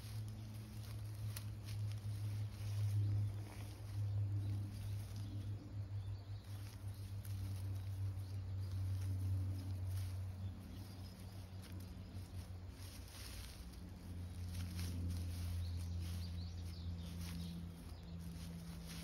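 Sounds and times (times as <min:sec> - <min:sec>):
rustling of weeds and grass: 0:00.0 - 0:19.0
steady low hum: 0:00.0 - 0:19.0.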